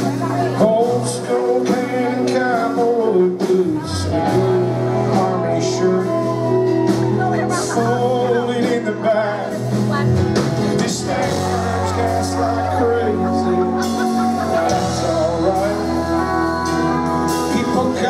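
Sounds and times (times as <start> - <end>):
live country band music: 0.0 - 18.0
man singing: 0.0 - 18.0.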